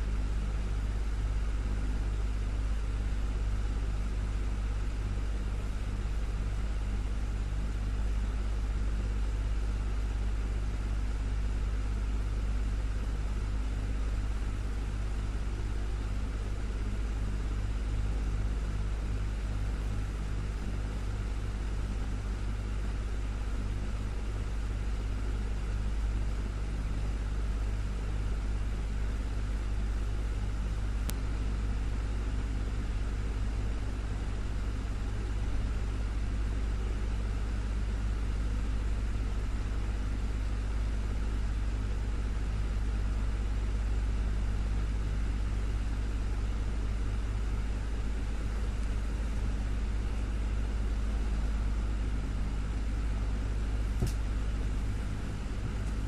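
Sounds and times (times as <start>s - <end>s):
desktop fan running: 0.0s - 56.0s.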